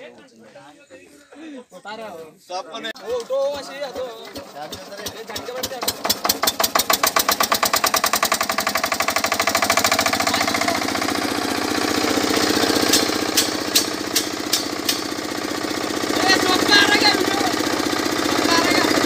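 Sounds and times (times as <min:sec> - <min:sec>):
single-cylinder engine chugging: 0:03.0 - 0:19.0.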